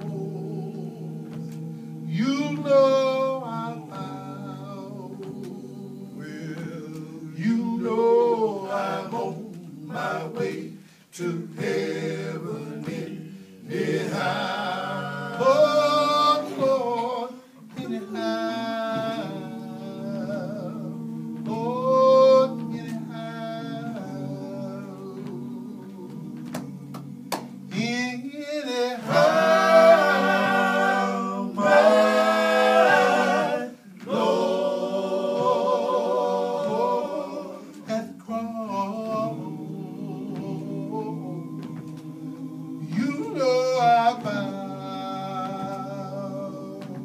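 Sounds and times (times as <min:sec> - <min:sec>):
male group singing a cappella: 0:00.0 - 0:47.0.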